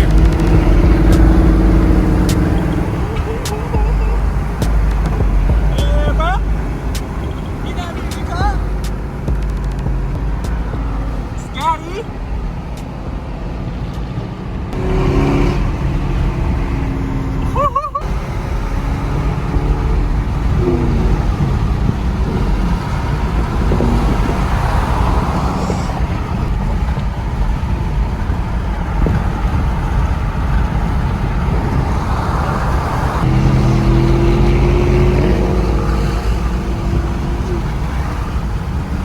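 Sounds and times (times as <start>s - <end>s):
car engine rumbling: 0.0s - 39.0s.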